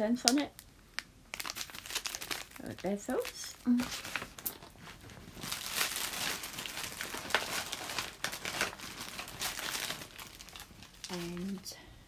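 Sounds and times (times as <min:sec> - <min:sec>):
packaging crinkling and rustling: 0:00.3 - 0:11.7.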